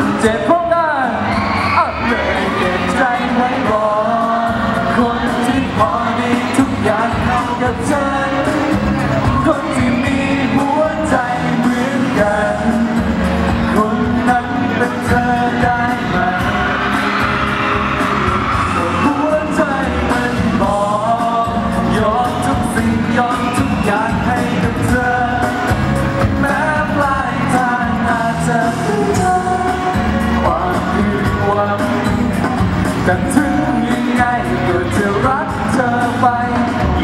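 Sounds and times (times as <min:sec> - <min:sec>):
man singing: 0:00.0 - 0:37.0
pop backing music: 0:00.0 - 0:37.0.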